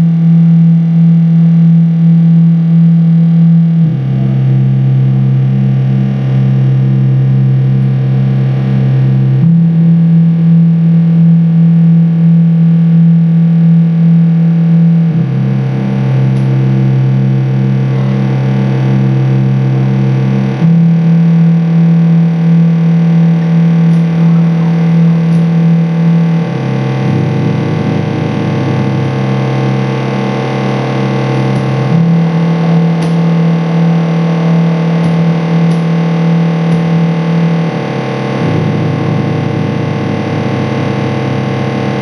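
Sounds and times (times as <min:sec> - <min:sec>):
loud distorted drone music: 0:00.0 - 0:42.0.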